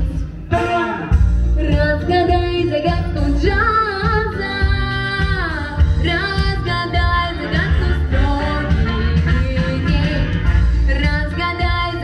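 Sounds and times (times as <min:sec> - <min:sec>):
backing track with steady beat: 0:00.0 - 0:12.0.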